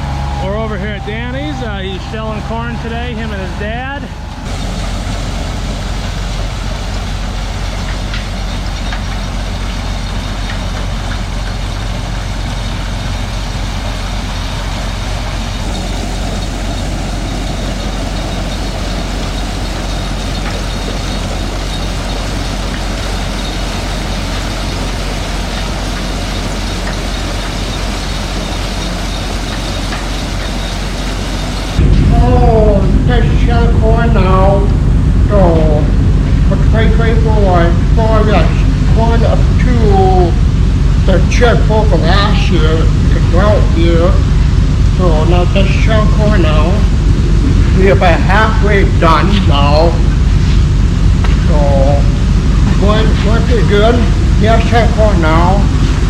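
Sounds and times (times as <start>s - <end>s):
corn sheller machine din: 0.0s - 56.0s
deep mechanical rumble: 0.0s - 56.0s.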